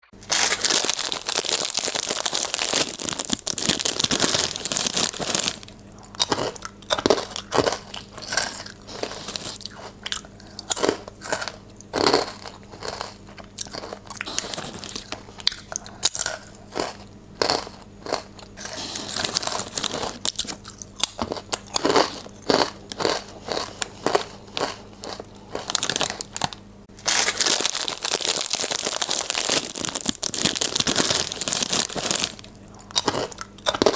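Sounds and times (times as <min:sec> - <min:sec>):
chewing crisp potato chips: 0:00.2 - 0:33.9
chip packet crinkling: 0:00.2 - 0:33.9.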